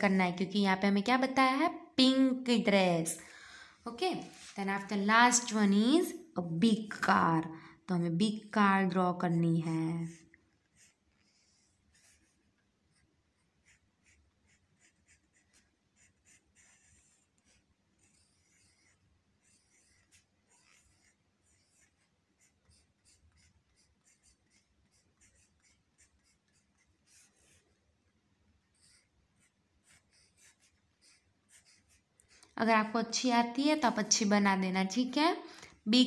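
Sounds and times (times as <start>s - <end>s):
pencil scratching on paper: 4.0s - 35.5s.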